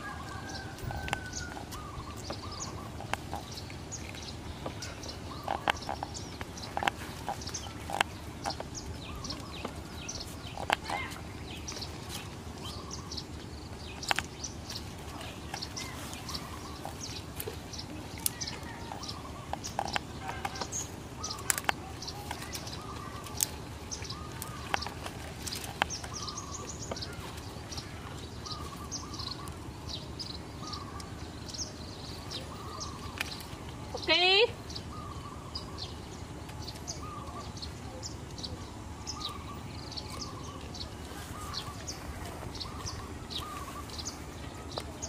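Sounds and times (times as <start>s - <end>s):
low background noise: 0.0s - 45.0s
small birds chirping: 0.0s - 45.0s.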